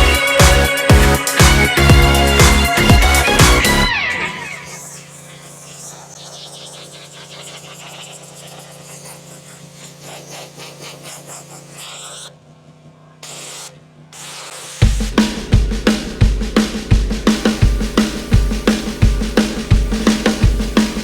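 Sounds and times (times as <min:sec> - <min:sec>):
pressure washer hum: 0:00.0 - 0:21.0
hissing spray: 0:02.7 - 0:12.4, 0:13.1 - 0:21.0.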